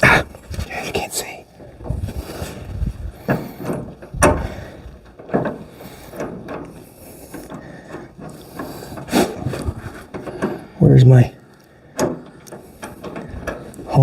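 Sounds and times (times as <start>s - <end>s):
metal parts clunking and scraping: 1.5s - 14.0s.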